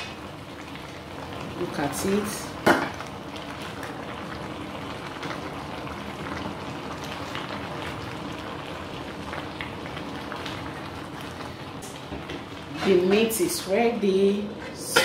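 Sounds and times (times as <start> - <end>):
pot bubbling and sizzling: 0.0 - 15.0.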